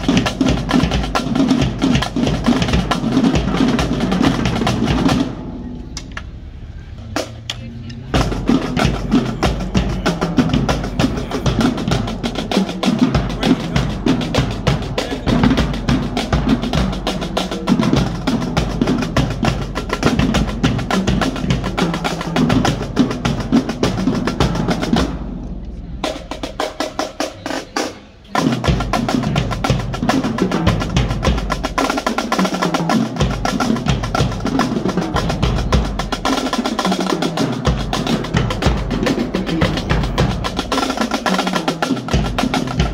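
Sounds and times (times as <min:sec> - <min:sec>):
fast snare drum strokes: 0:00.0 - 0:05.4, 0:08.2 - 0:25.2, 0:26.0 - 0:42.9
marching drumline cadence: 0:00.0 - 0:42.9.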